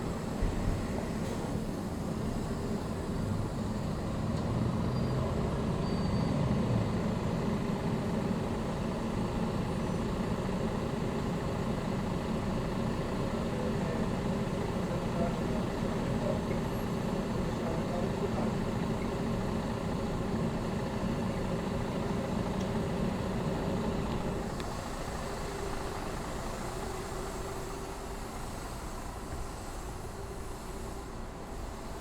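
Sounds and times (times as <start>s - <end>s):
vehicle engines and tyres rumbling: 0.0s - 32.0s.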